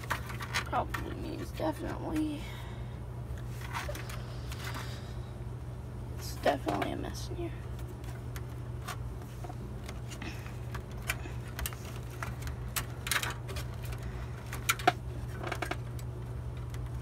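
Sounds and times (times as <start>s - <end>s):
cables and connectors rustling: 0.0s - 5.3s, 6.2s - 17.0s
low hum: 0.0s - 17.0s.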